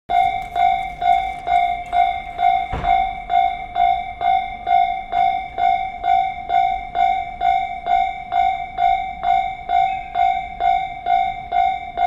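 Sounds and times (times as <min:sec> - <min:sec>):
level crossing bell clanging: 0:00.1 - 0:12.0.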